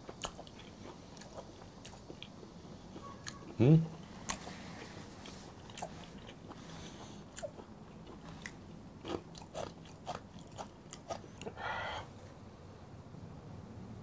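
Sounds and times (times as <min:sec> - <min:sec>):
person chewing with wet smacks: 0:00.0 - 0:11.6.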